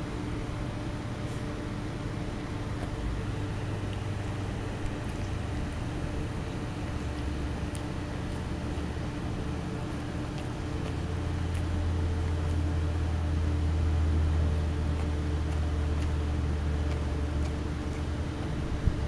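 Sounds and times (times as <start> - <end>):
dog chewing kibble: 0.0 - 19.0
low mechanical drone: 0.0 - 19.0.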